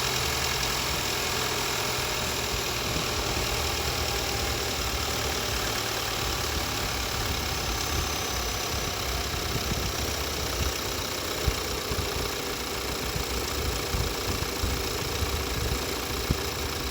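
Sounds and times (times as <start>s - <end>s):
engine idling with knock: 0.0s - 16.9s.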